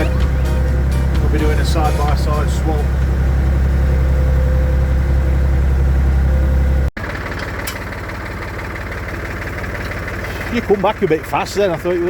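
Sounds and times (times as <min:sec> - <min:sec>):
tractor engine droning: 0:00.0 - 0:12.0
tractor engine idling rattly: 0:00.0 - 0:12.0.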